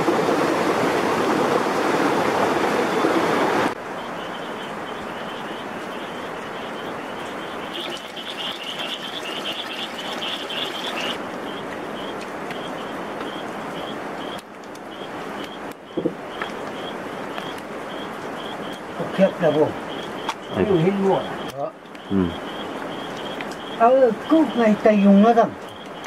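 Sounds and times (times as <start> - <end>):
rushing stream water: 0.0 - 21.4.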